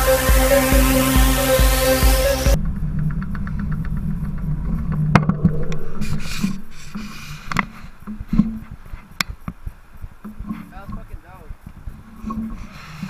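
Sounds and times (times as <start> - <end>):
bicycle ticking: 0.0 - 5.4, 6.8 - 13.0.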